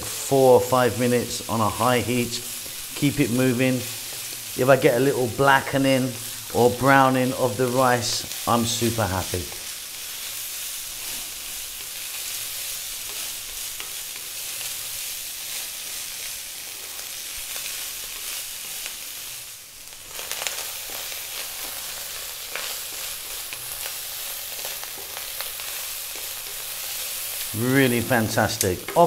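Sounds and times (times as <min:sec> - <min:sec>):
rice sizzling in a wok: 0:00.0 - 0:29.0.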